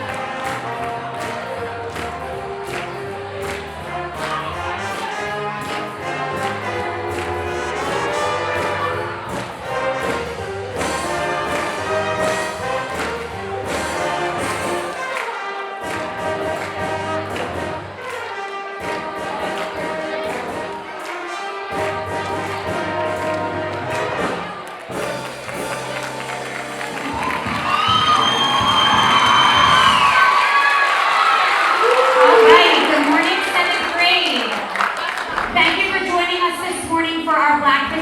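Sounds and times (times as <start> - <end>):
orchestral music with beat: 0.0 - 30.5.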